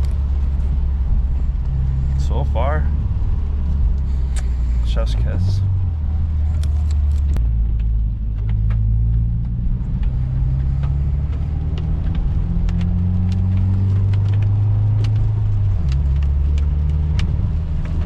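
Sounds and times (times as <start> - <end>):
car engine pulling from inside: 0.0 - 18.0.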